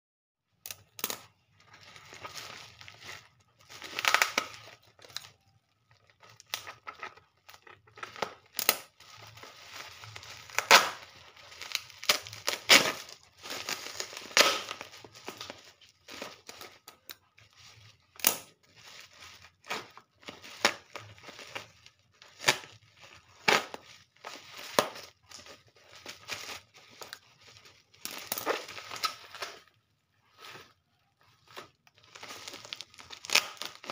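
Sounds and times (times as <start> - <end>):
plastic wrapping crinkling and tearing: 0.5 - 33.9.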